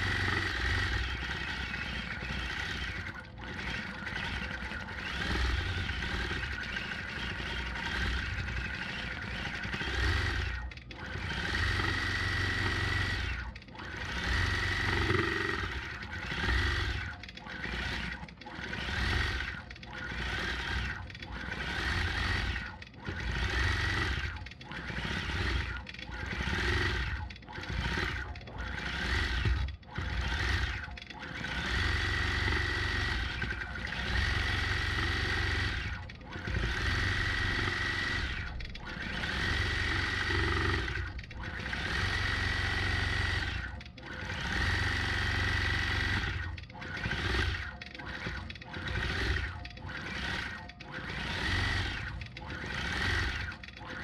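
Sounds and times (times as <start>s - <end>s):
rapid needle rattle: 0.0s - 54.0s
sewing machine motor whine: 0.0s - 54.0s.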